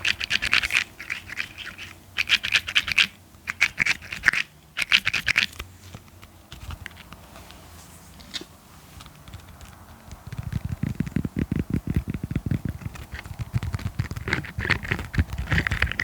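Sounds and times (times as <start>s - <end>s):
scratching on a surface: 0.0s - 6.0s, 6.6s - 16.0s.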